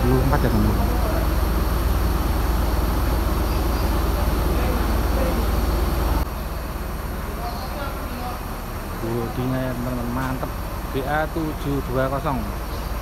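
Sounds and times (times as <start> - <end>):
diesel coach engines idling: 0.0 - 13.0.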